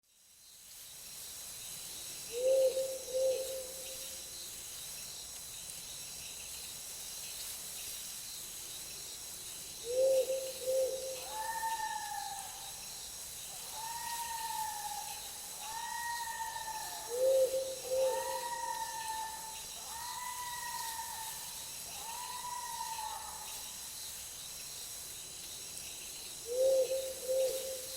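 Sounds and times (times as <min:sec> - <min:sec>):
insects chirring: 0:00.1 - 0:27.9.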